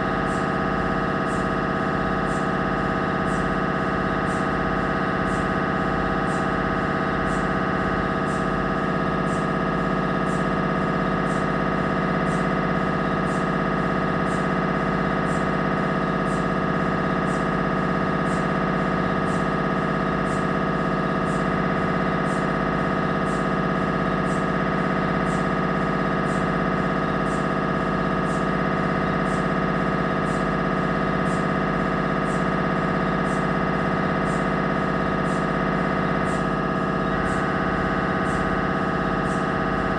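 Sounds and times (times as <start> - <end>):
mri scanner buzzing: 0.0 - 39.9.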